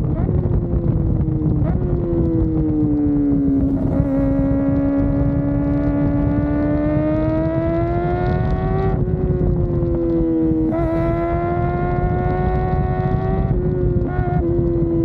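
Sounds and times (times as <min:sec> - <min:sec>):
wind and road rush: 0:00.0 - 0:15.0.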